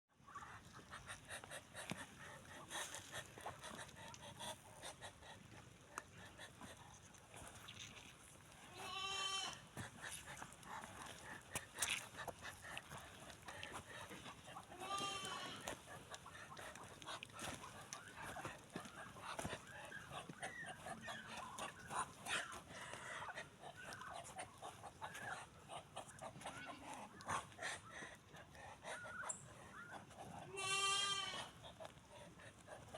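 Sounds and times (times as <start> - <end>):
poultry clucking: 0.2 - 7.1, 8.7 - 32.9
drawn-out poultry calls: 0.2 - 32.9.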